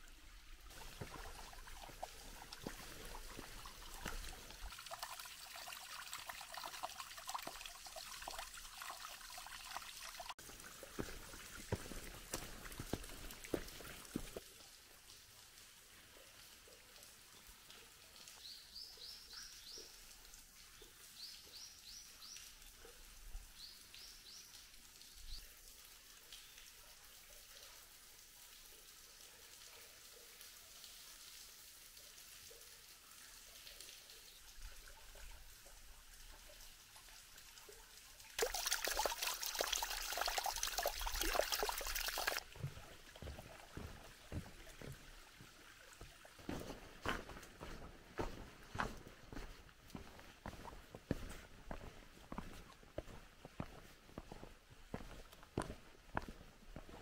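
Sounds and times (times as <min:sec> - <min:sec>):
water trickling over rock: 0:00.0 - 0:57.0.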